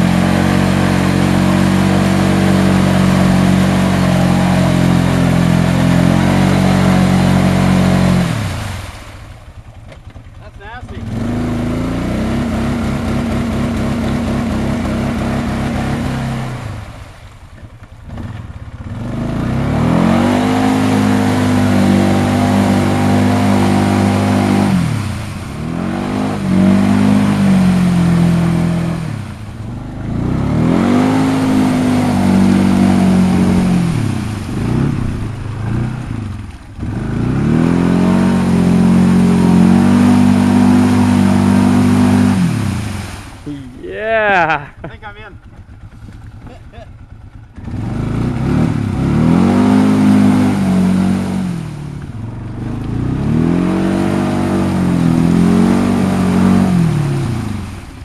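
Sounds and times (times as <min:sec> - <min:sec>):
tyres churning mud: 0:00.0 - 0:47.0, 0:47.6 - 0:58.0
atv engine revving: 0:00.0 - 0:58.0.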